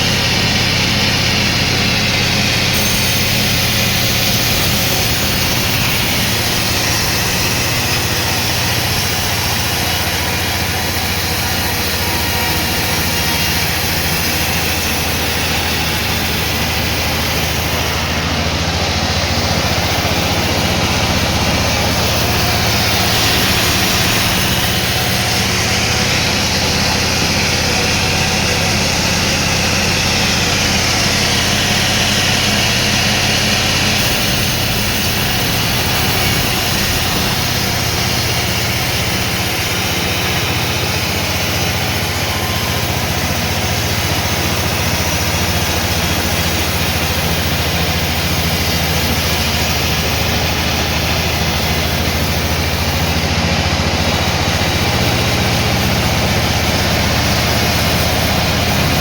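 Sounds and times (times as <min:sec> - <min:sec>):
noisy machinery hiss: 0:00.0 - 0:59.0.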